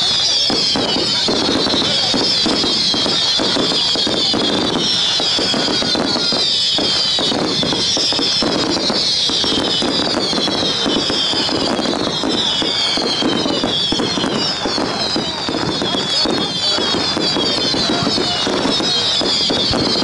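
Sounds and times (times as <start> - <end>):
fireworks crackling: 0.0 - 20.0.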